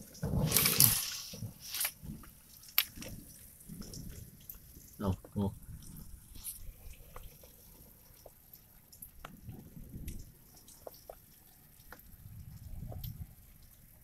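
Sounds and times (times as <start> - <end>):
low rush of rain: 0.0 - 14.0
rain drips and taps: 0.0 - 14.0.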